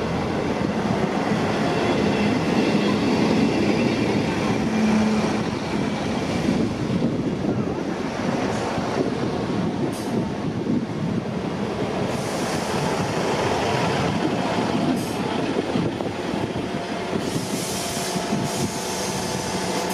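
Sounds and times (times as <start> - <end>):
train rumbling past: 0.0 - 19.9.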